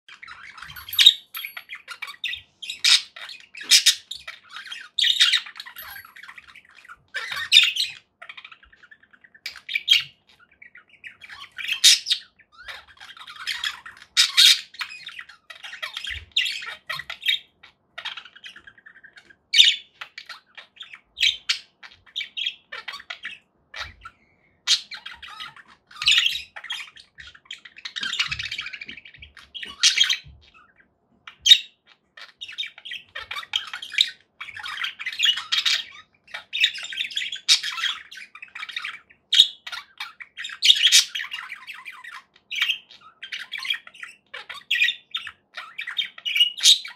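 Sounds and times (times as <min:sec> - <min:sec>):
budgerigars warbling twitter: 0:00.1 - 0:46.9
sharp budgerigar calls: 0:00.1 - 0:46.9.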